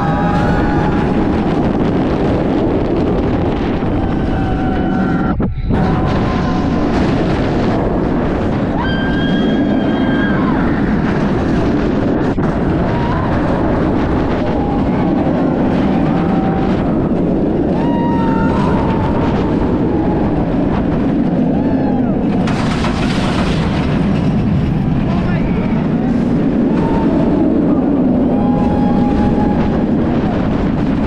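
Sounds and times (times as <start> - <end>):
wheels rumbling on track: 0.0 - 31.0
wind rushing over microphone: 0.0 - 31.0.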